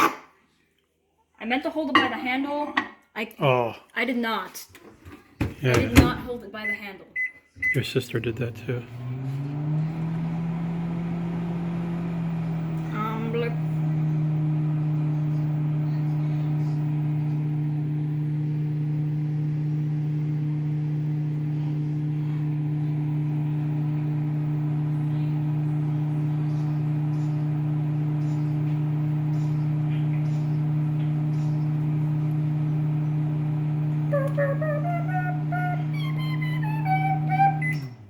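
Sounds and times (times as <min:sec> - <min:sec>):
microwave oven humming: 0:05.6 - 0:38.0.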